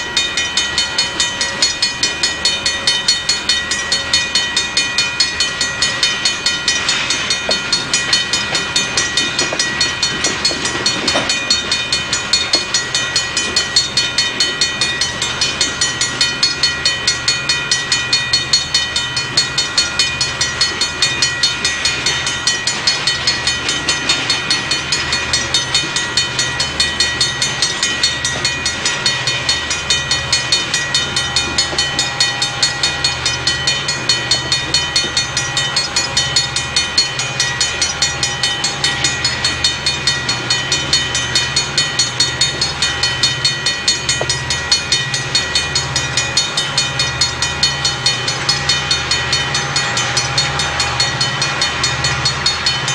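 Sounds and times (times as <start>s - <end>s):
metallic ringing: 0.0s - 52.9s
train wheels clicking over rail joints: 0.0s - 52.9s.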